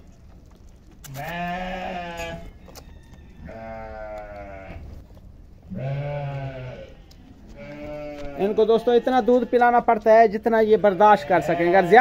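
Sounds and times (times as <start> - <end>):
goat kids bleating: 1.0 - 5.0, 5.7 - 12.0.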